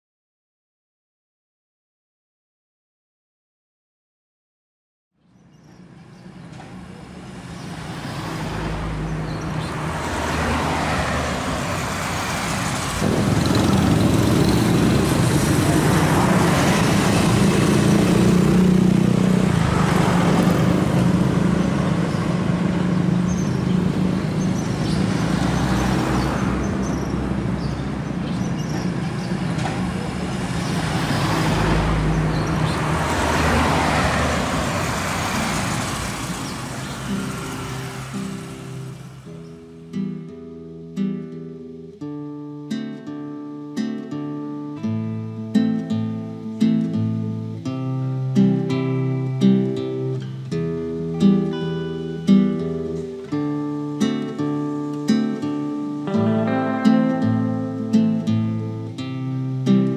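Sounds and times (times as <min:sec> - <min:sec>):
vehicles passing: 0:05.2 - 0:59.9.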